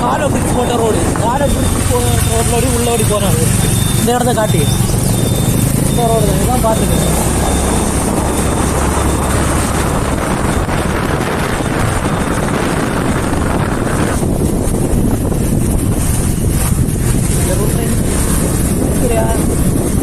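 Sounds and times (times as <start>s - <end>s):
low engine hum: 0.0s - 20.0s
wind rushing over microphone: 0.0s - 20.0s.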